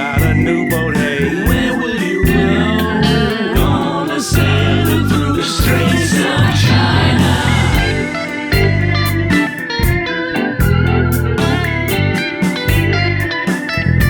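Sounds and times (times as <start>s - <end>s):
backing voices: 0.0s - 13.3s
rock band with singing: 0.0s - 14.0s.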